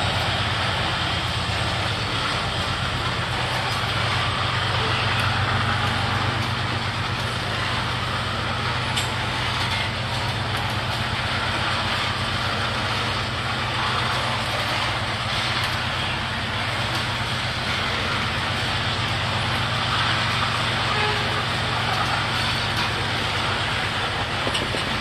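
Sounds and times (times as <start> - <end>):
train cars rumbling on rails: 0.0 - 25.0.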